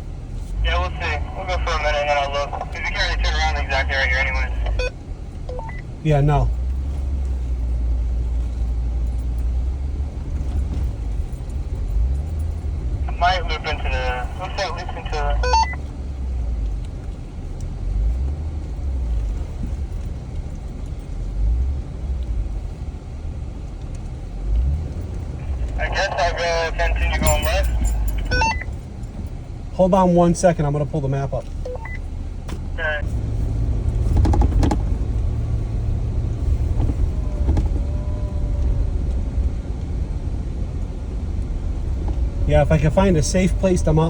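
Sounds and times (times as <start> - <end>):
vehicle rumbling on dirt trail: 0.0 - 44.0.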